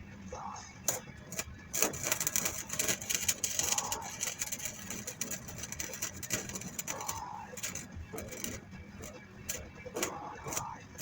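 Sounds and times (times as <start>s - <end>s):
welding arc crackling: 0.9s - 11.0s.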